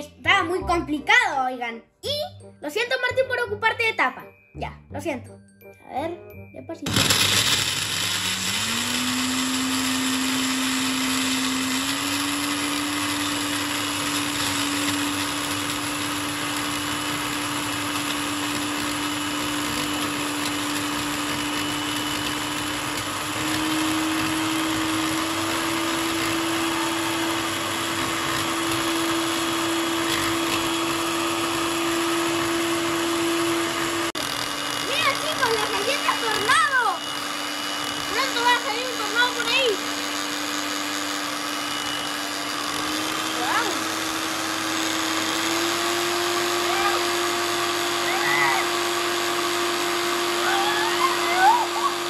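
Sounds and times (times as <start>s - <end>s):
blender crushing cookies: 6.8s - 52.0s.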